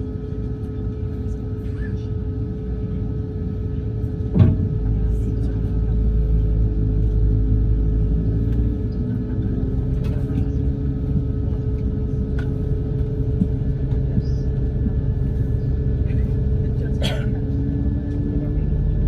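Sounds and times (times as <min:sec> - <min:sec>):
aircraft cabin rumble and hum: 0:00.0 - 0:19.0.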